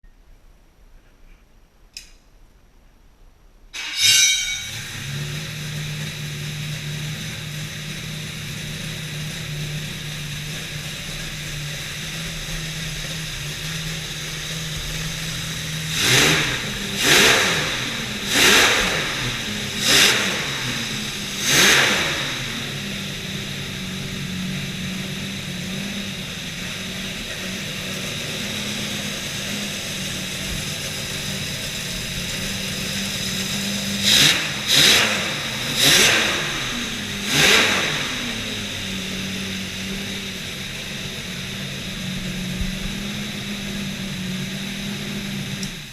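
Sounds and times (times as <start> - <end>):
engine idling and revving: 4.6 - 45.9.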